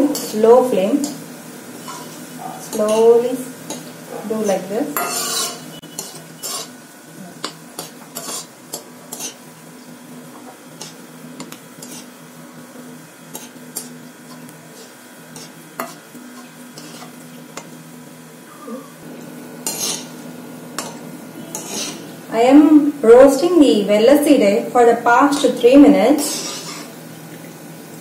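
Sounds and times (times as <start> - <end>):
food deep-frying in oil: 0.0 - 28.0.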